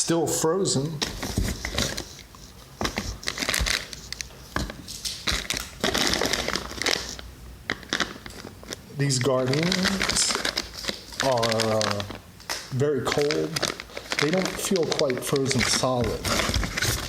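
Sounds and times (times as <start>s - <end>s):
plastic wrapping crinkling: 1.0s - 17.0s.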